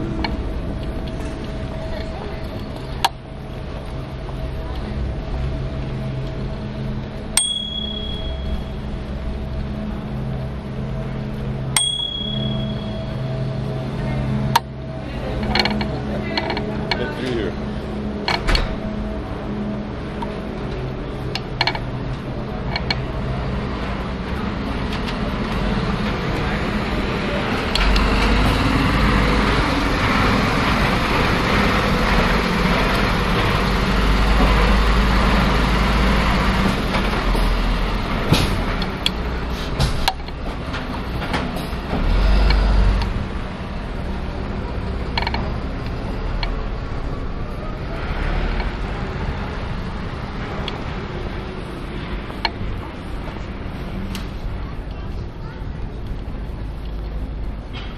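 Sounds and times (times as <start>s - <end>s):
bike rattling and creaking: 0.0s - 57.9s
truck engine running: 0.0s - 57.9s.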